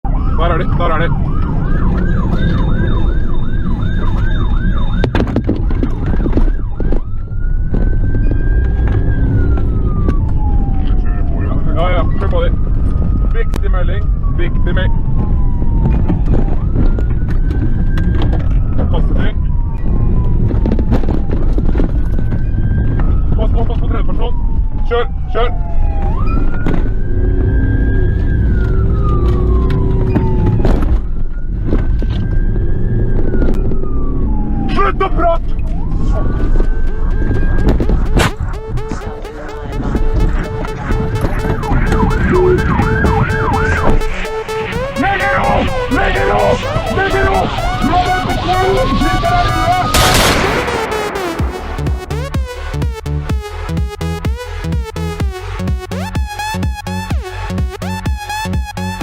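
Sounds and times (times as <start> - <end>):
car engine and road noise: 0.0 - 59.0
police siren yelping: 0.0 - 59.0.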